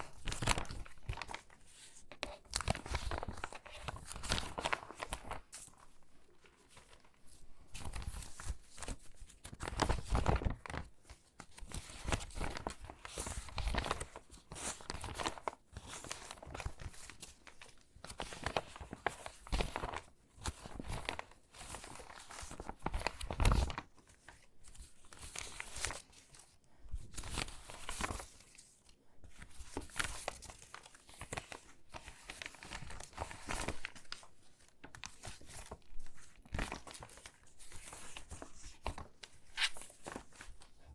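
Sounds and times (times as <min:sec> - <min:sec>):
stiff paper crackling and rustling: 0:00.0 - 0:40.9.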